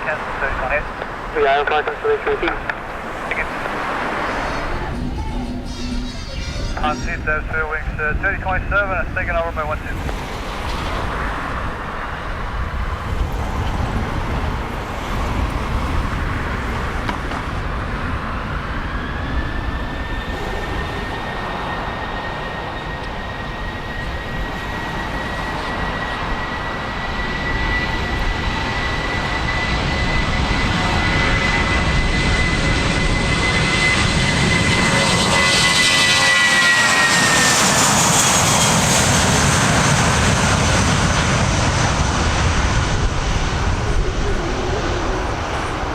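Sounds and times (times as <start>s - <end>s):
aircraft engine whine: 0.0s - 45.9s
wind buffeting microphone: 0.0s - 45.9s.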